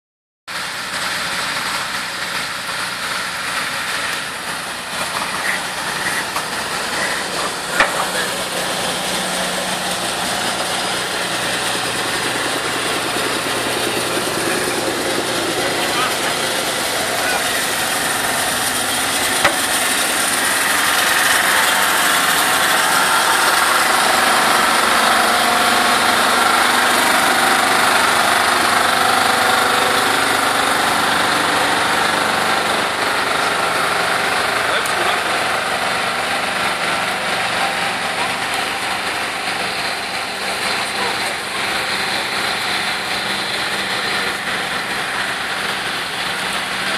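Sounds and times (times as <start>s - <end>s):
diesel truck engines running: 0.5s - 46.9s.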